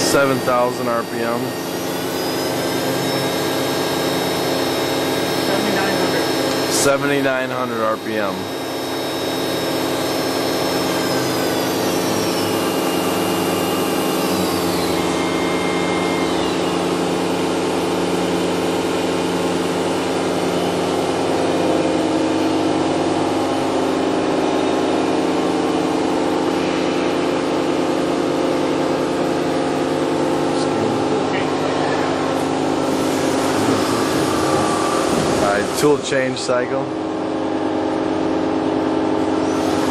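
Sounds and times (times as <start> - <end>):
machine spindle high whine: 0.0 - 39.9
steady machine hum: 0.0 - 39.9.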